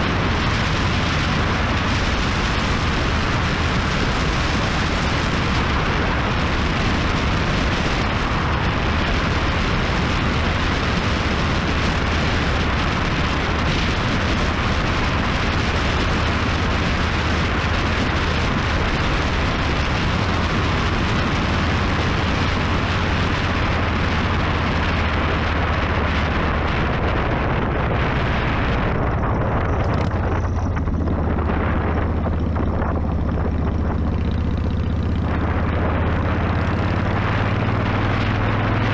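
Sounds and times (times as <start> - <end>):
motorcycle engine drone: 0.0 - 38.9
wind rushing over microphone: 0.0 - 38.9.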